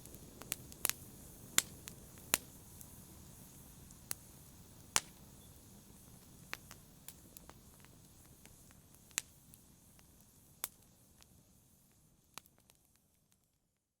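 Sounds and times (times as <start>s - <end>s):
campfire crackling and popping: 0.0s - 13.8s
low fire hiss: 0.0s - 14.0s.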